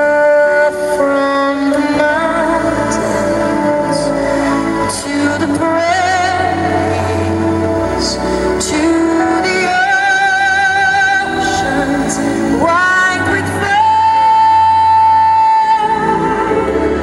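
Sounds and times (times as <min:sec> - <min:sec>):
person singing long wavering notes: 0:00.0 - 0:17.0.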